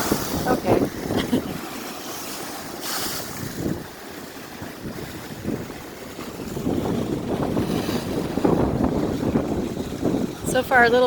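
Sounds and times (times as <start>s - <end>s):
wind buffeting microphone: 0.0s - 1.8s, 3.1s - 11.0s
waves surging and washing: 0.0s - 11.0s.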